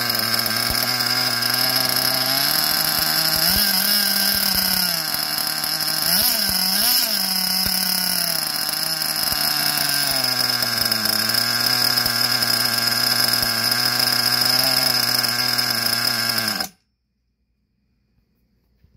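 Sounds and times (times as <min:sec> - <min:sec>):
two-stroke engine revving and idling: 0:00.0 - 0:16.8.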